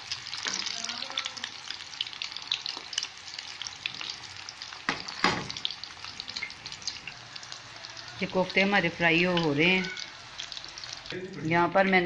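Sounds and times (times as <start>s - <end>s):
meatballs sizzling in oil: 0.0s - 12.0s.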